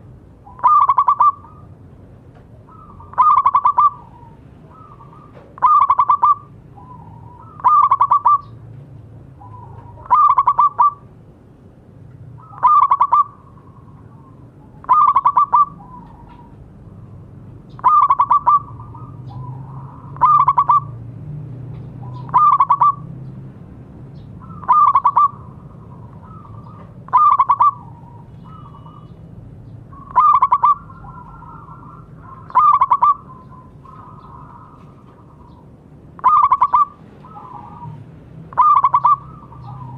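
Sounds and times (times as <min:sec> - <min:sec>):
dove cooing song: 0:00.0 - 0:08.7, 0:09.3 - 0:11.2, 0:12.2 - 0:21.1, 0:21.8 - 0:23.4, 0:24.2 - 0:39.9.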